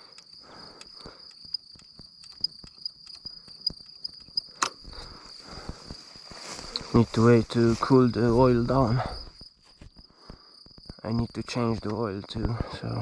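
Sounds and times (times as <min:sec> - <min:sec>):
crickets trilling: 0:00.0 - 0:13.0
faint clicks and rustles: 0:00.0 - 0:13.0.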